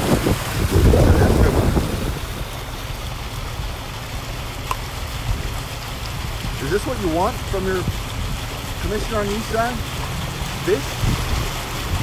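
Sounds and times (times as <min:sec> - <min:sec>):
wind buffeting microphone: 0:00.0 - 0:09.2, 0:09.8 - 0:12.0
floodwater rushing around car: 0:00.0 - 0:12.0.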